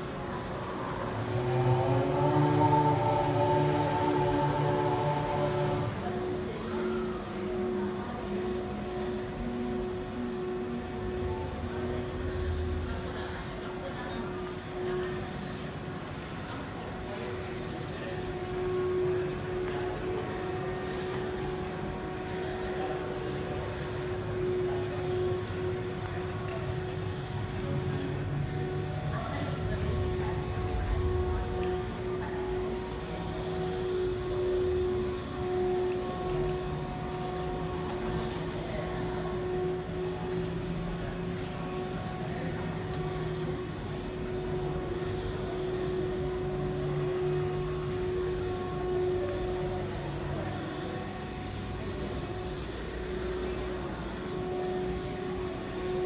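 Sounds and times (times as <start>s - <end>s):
constant droning tone: 0.0s - 56.0s.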